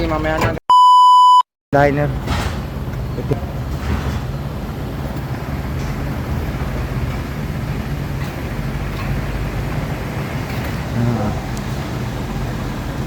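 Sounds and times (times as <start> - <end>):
truck engine idling: 1.8 - 13.0.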